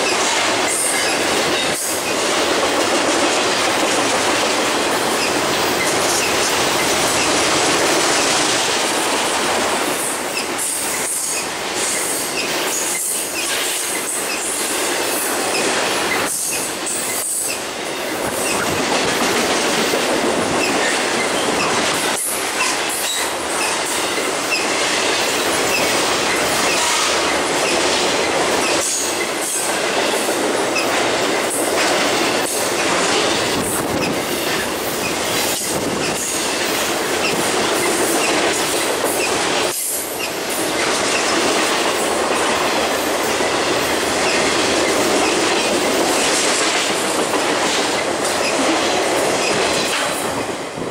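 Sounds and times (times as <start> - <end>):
train wheels rumbling on rails: 0.0 - 50.9
wheels clicking over rail joints: 0.0 - 50.9.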